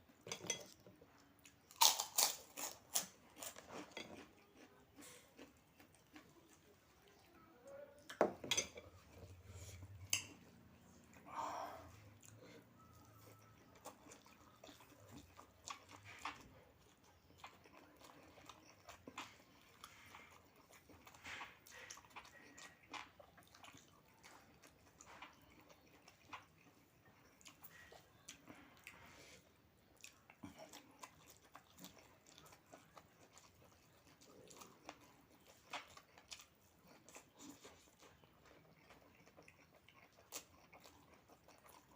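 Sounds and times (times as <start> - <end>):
person chewing food: 0.0 - 7.4, 8.0 - 41.9.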